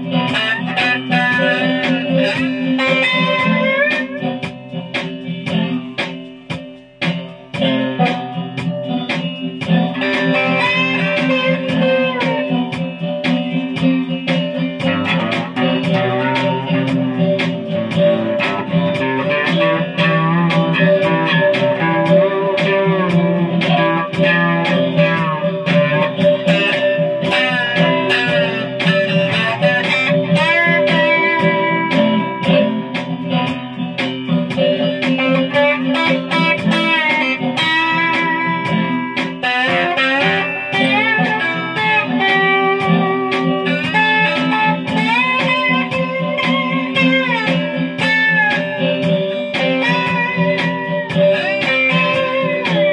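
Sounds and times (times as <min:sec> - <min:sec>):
slide guitar melody: 0:00.0 - 0:52.9.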